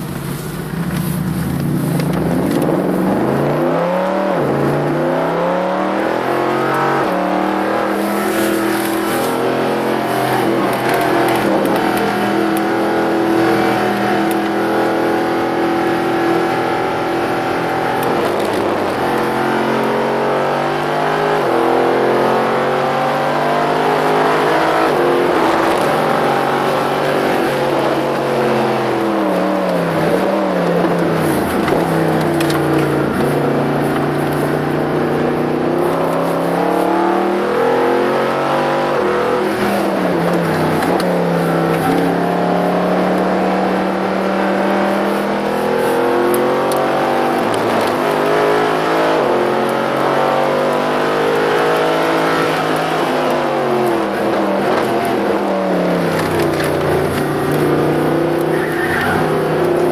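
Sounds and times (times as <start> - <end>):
car engine accelerating hard: 0.0 - 59.9.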